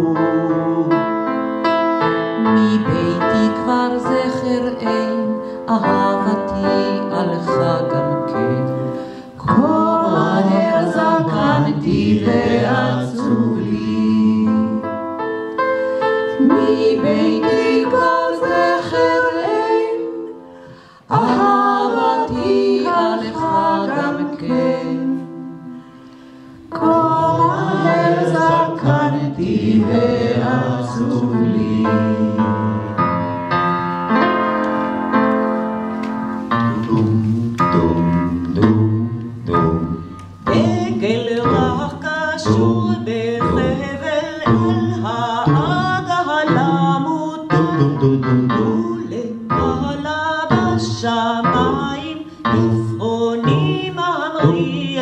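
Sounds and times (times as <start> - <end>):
vocal group singing: 0.0 - 1.5, 2.4 - 15.0, 16.0 - 33.3, 36.4 - 55.0
electric keyboard: 0.0 - 55.0.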